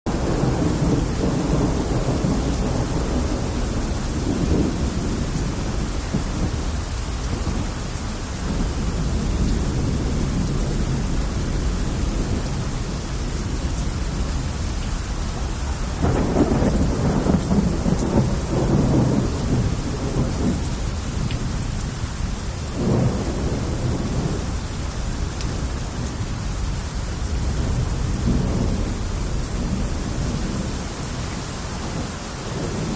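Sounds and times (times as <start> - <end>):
heavy rain hissing: 0.1 - 32.9.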